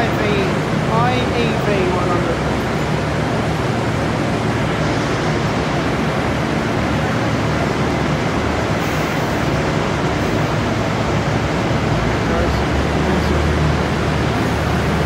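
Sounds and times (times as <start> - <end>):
diesel train engines idling: 0.0 - 15.0.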